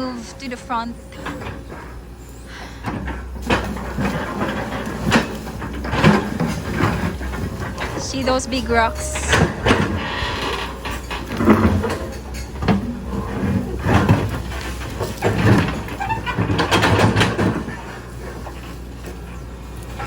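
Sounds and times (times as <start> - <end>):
bucket clanking and scraping rocks: 0.0 - 20.0
diesel engine hum: 0.0 - 20.0.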